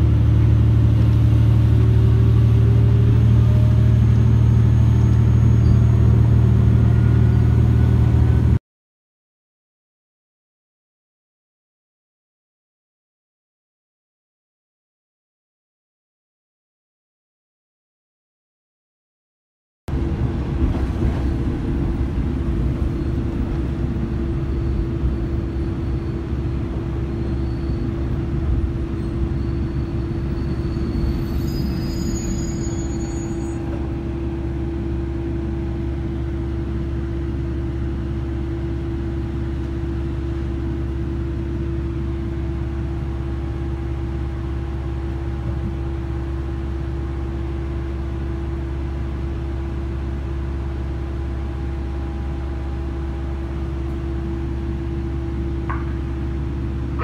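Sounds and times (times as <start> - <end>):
rough train running noise: 0.0 - 8.6, 19.9 - 57.0
train interior hum: 0.0 - 8.6, 19.9 - 57.0.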